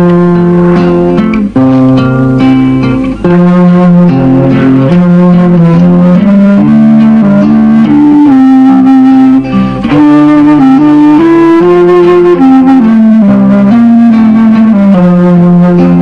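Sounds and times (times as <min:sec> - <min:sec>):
small flute playing a tune: 0:00.0 - 0:16.0.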